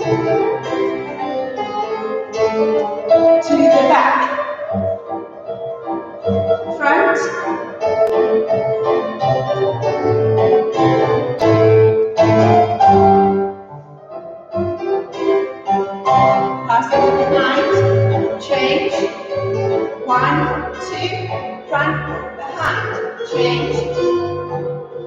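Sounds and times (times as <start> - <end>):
piano accompaniment: 0.0 - 25.0.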